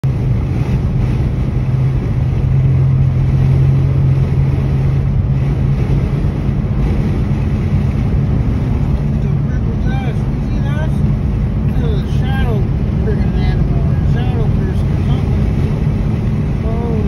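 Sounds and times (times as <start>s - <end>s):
car engine hum inside cabin: 0.0s - 17.0s
road and tyre rumble: 0.0s - 17.0s.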